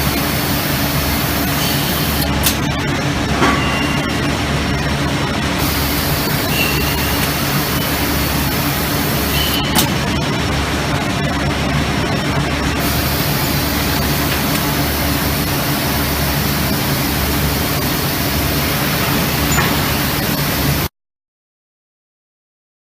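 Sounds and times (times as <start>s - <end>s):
factory machinery hiss and hum: 0.0s - 20.9s.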